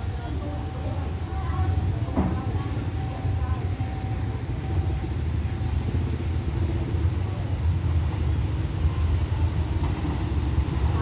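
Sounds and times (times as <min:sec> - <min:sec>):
crickets buzzing: 0:00.0 - 0:11.0
diesel locomotive rumble: 0:00.0 - 0:11.0.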